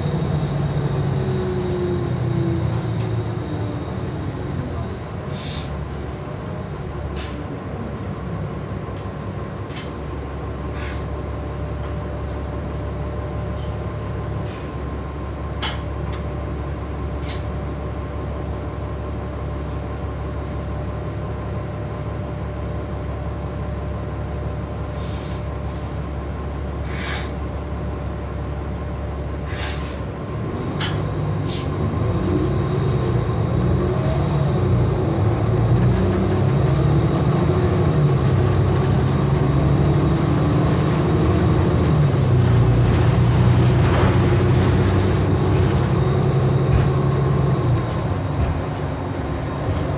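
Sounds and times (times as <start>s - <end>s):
bus diesel engine: 0.0s - 49.9s
road noise: 0.0s - 49.9s.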